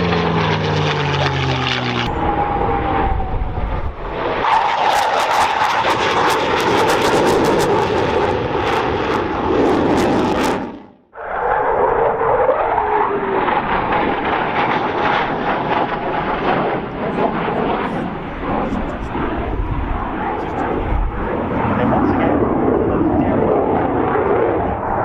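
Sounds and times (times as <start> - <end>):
aircraft flying past: 0.0 - 25.0
jet engines passing: 0.0 - 25.0.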